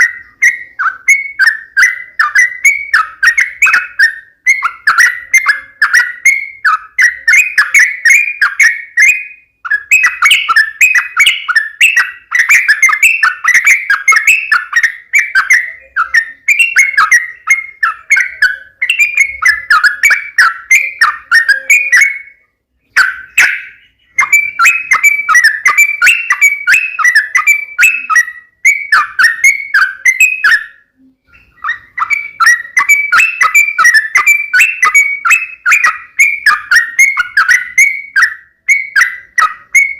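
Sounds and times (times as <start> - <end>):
bird singing bubbly chattering song: 0.0 - 39.9.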